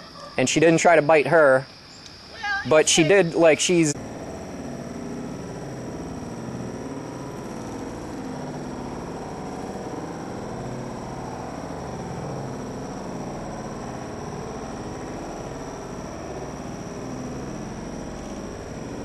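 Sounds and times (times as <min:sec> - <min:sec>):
background hum and hiss: 0:00.0 - 0:19.0
faint high-pitched whine: 0:00.0 - 0:19.0.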